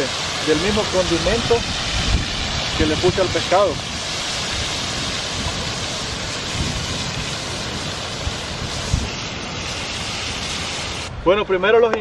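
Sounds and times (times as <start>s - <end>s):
vegetables sizzling in oil: 0.0s - 11.1s.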